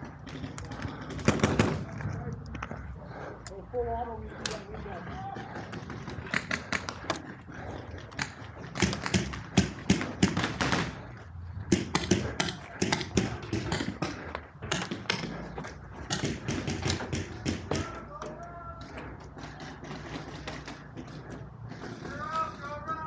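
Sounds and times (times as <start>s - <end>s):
paintball markers firing: 0.0s - 2.7s, 4.3s - 22.9s.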